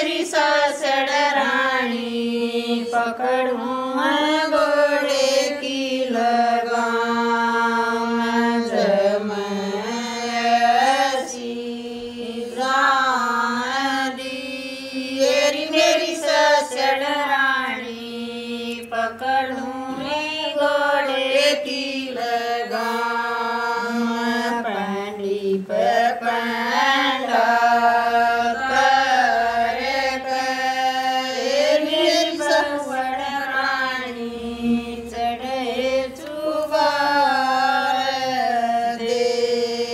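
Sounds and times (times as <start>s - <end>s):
women singing unaccompanied: 0.0s - 39.9s.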